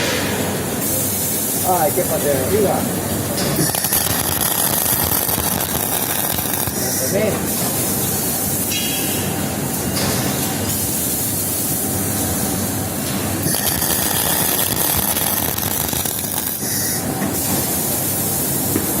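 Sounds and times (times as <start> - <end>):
welding arc crackling hiss: 0.0 - 8.8, 9.6 - 19.0.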